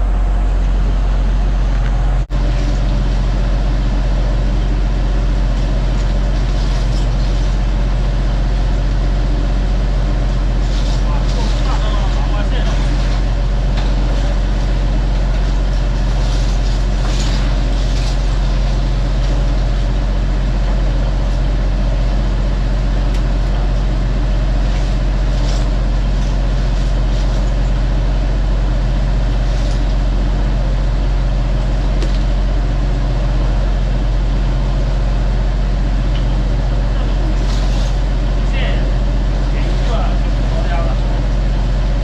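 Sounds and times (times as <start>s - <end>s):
diesel engine low drone: 0.0s - 42.0s.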